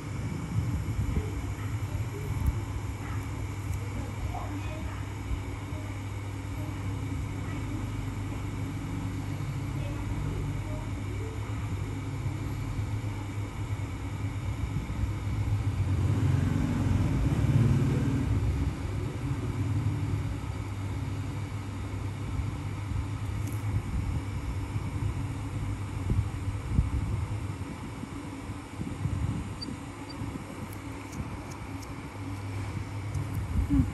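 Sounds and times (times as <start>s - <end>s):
low mechanical rumble with hum: 0.0s - 33.9s.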